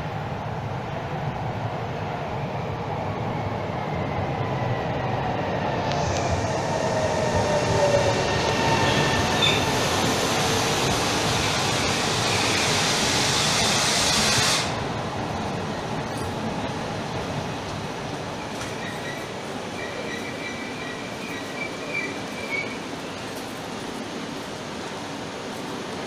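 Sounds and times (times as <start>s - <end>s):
electric train rumbling hiss: 0.0s - 26.0s
falling whine of train: 0.0s - 26.0s.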